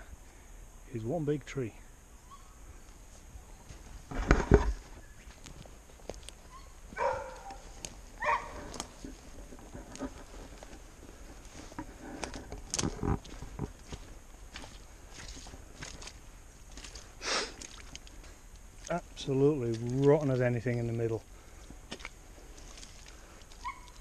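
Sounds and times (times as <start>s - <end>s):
footsteps crunching dry branches: 2.8s - 24.0s.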